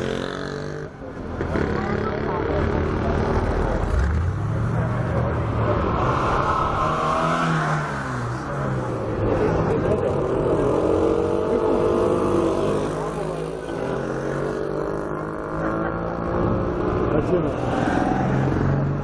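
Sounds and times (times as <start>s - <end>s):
vintage car engines passing: 0.0s - 19.0s.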